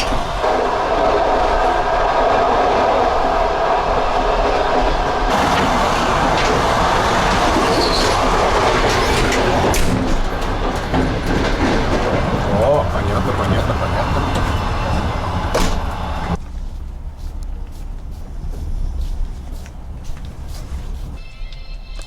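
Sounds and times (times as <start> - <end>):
train wheels rumbling and rattling: 0.0 - 21.2.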